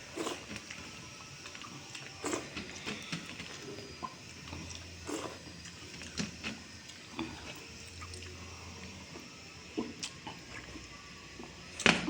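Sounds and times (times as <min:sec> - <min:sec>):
person chewing wet food: 0:00.0 - 0:11.9.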